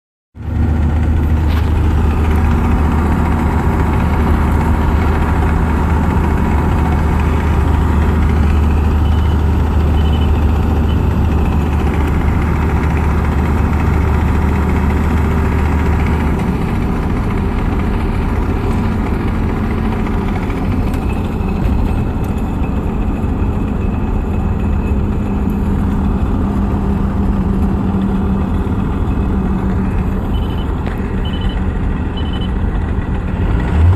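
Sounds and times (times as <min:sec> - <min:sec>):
engine idling: 0:00.4 - 0:33.9.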